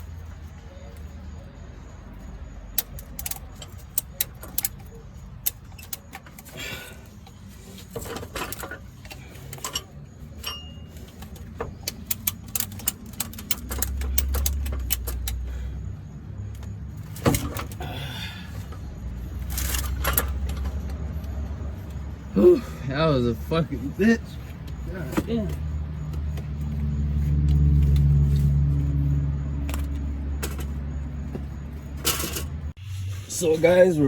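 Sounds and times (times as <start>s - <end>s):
metal tools clicking and clanking: 0.0s - 17.9s, 18.6s - 28.4s, 29.5s - 32.8s.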